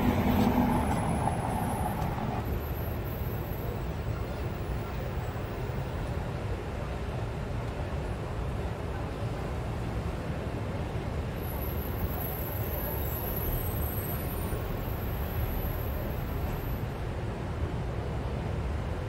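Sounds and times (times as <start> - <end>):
low rumble of road traffic: 0.0 - 19.0.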